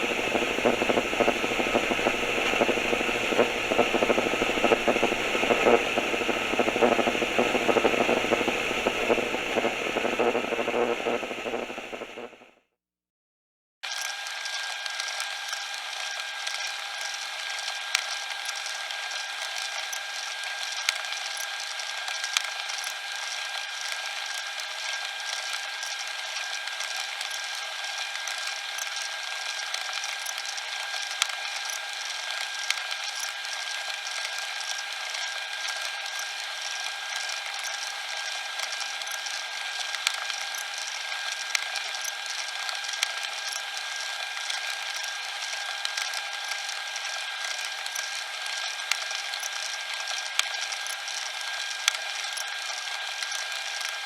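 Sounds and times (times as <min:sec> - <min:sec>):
cassette tape mechanism whirring: 0:00.0 - 0:12.5, 0:13.9 - 0:54.0.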